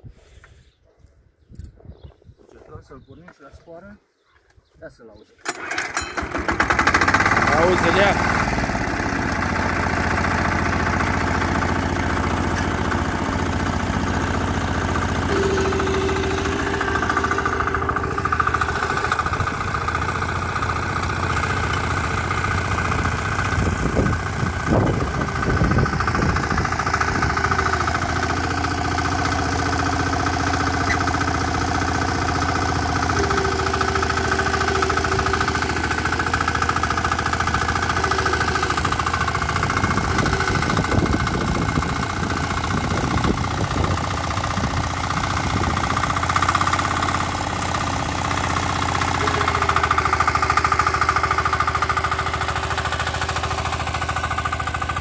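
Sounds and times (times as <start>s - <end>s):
tractor engine running: 5.5s - 55.0s.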